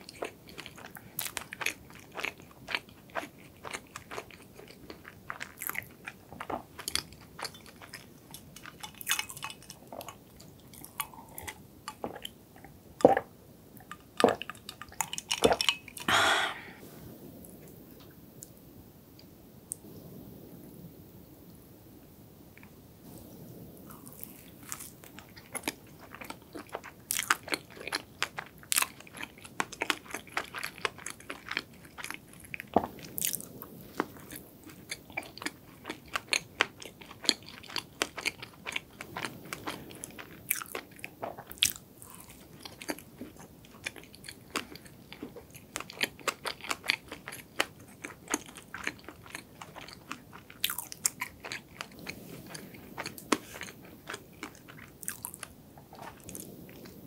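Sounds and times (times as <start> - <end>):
person chewing with mouth clicks: 0.0 - 16.8, 24.0 - 57.0.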